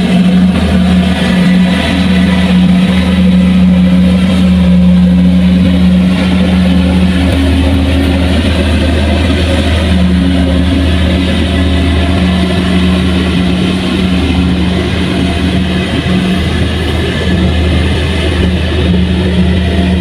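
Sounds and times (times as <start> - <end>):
heavy machine engine humming: 0.0 - 20.0.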